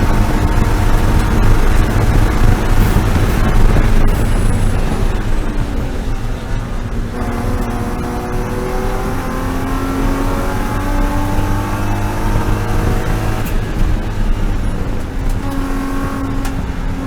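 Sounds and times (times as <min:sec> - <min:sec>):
gear change: 0:00.0 - 0:17.0
race car engine accelerating: 0:00.0 - 0:17.0.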